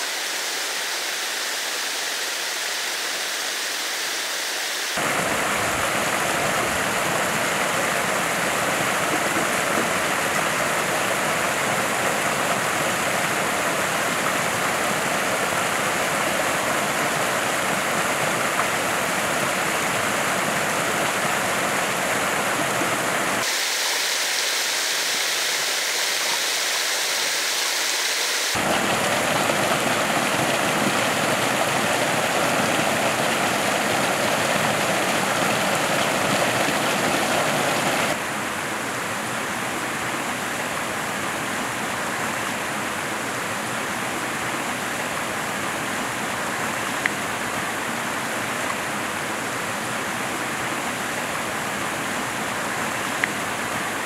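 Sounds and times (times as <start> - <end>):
stream and small waterfall rushing: 0.0 - 54.0.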